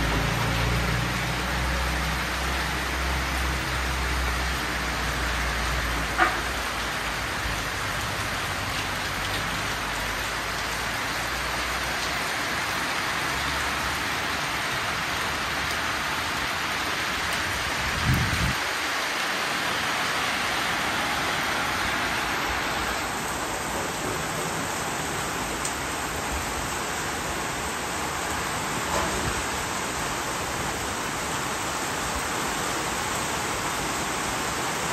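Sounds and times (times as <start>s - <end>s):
rain on metal roof: 0.0s - 34.9s.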